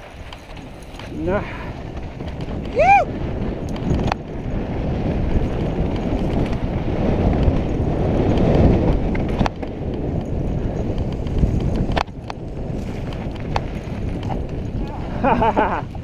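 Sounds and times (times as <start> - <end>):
bike clicks and knocks: 0.0 - 16.0
bike tyre and trail noise: 0.0 - 16.0
wind on microphone: 0.0 - 16.0.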